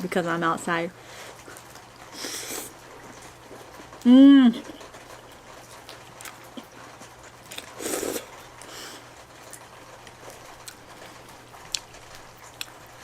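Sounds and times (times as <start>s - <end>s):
wet mouth eating sounds: 1.4s - 13.0s.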